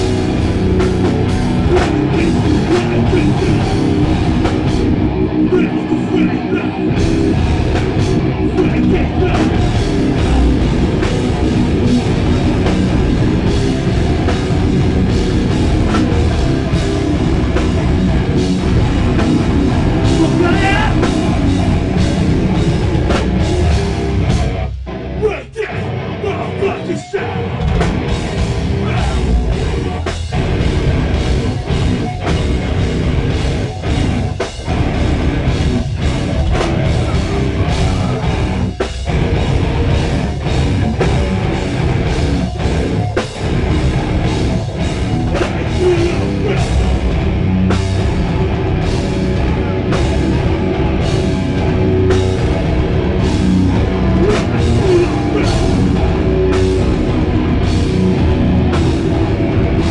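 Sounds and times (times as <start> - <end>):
bass guitar: 0.0 - 59.9
distorted electric guitars: 0.0 - 59.9
pounding drum kit: 0.0 - 59.9.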